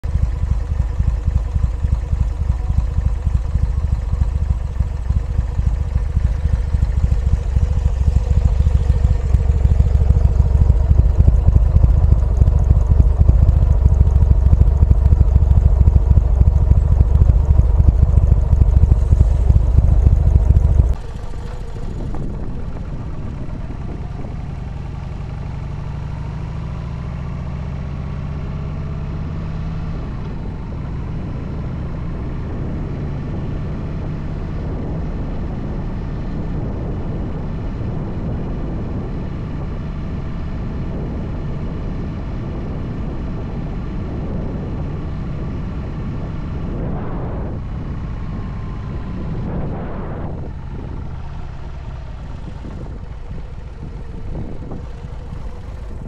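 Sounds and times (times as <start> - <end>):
loud low rumble: 0.0 - 56.0
motorcycle engine running: 0.0 - 56.0.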